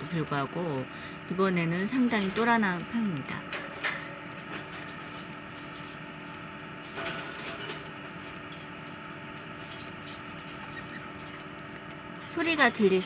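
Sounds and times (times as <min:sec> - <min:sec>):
chick chirping: 0:00.0 - 0:13.0.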